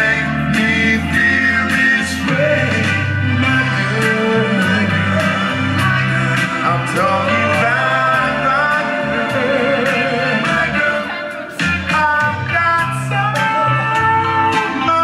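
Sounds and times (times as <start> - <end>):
man singing into microphone: 0.0 - 11.0, 11.9 - 15.0
backing music with bass line: 0.0 - 15.0.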